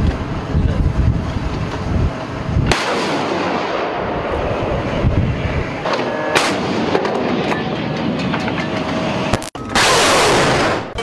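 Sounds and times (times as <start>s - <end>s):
low rumble of wind: 0.0s - 11.0s.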